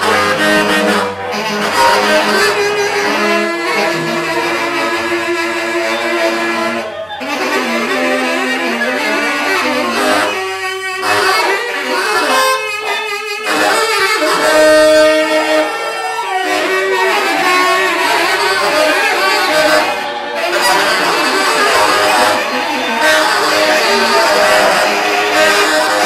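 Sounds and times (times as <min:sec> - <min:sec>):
tenor saxophone: 0:00.0 - 0:26.0.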